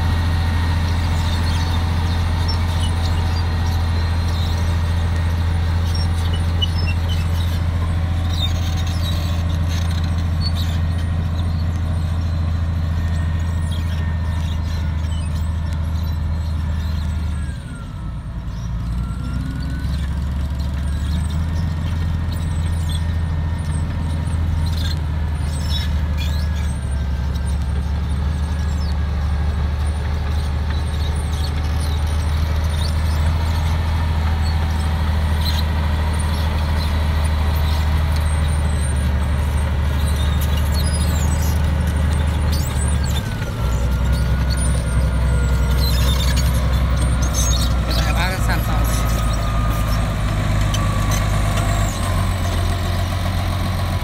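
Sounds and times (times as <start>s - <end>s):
bulldozer diesel engine droning: 0.0s - 54.0s
steel tracks squealing: 0.9s - 17.9s, 18.5s - 54.0s.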